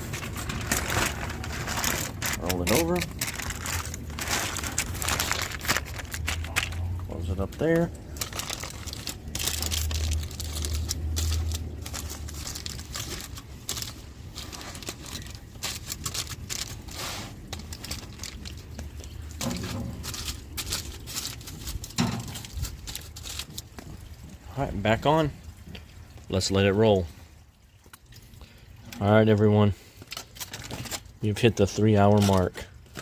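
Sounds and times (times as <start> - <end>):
aluminum foil crinkling: 0.0 - 26.4, 29.8 - 33.0.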